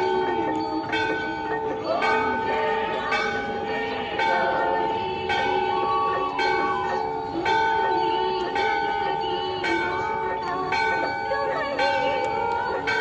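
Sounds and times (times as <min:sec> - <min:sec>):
metal temple bell ringing: 0:00.0 - 0:13.0.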